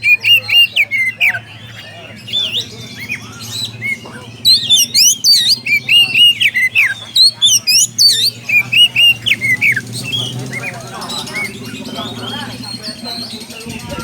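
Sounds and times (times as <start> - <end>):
songbird whistling song: 0.0 - 14.0.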